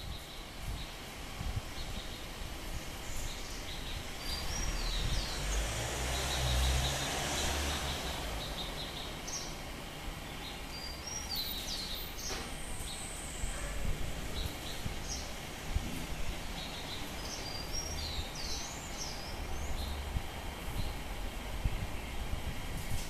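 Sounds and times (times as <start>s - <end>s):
outdoor background noise: 0.0s - 23.0s
songbirds chirping: 0.0s - 23.0s.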